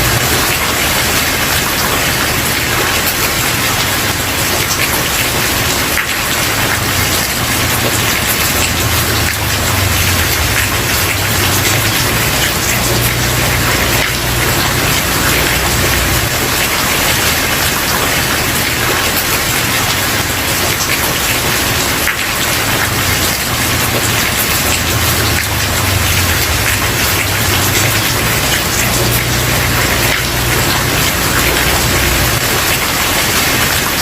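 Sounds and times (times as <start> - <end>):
heavy rain on wooden porch: 0.0 - 34.0.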